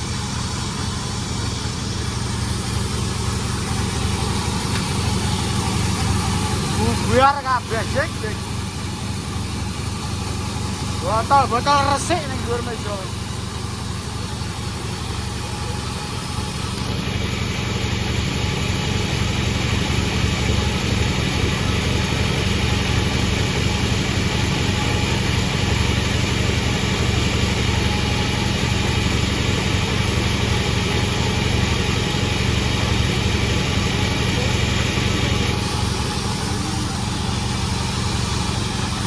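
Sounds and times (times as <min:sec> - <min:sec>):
sawmill machine sawing log: 0:00.0 - 0:39.0.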